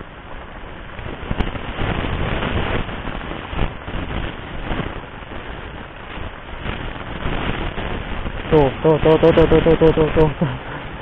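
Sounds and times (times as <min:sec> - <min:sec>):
wind and sea water rushing: 0:00.0 - 0:11.0.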